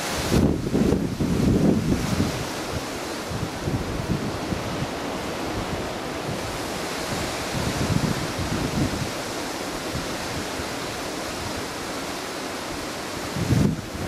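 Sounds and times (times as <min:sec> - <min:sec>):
wind buffeting microphone: 0:00.0 - 0:12.0, 0:12.7 - 0:14.0
wind through palm fronds: 0:00.0 - 0:14.0.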